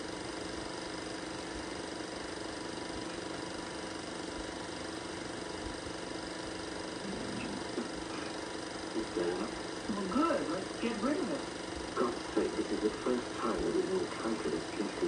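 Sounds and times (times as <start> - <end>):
film projector humming and whirring: 0.0 - 15.0.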